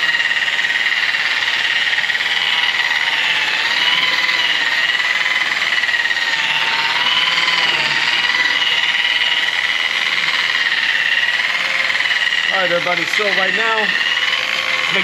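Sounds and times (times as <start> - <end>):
power polisher whining: 0.0 - 15.0.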